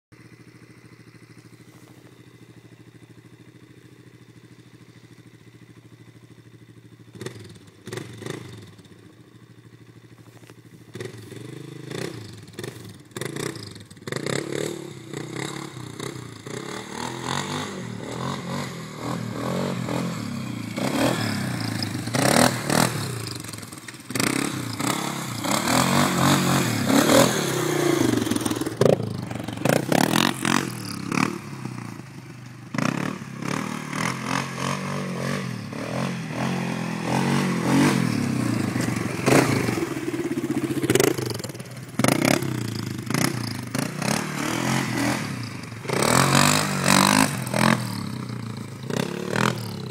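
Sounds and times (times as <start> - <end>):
quad bike engine revving: 5.4 - 9.2, 10.9 - 49.9.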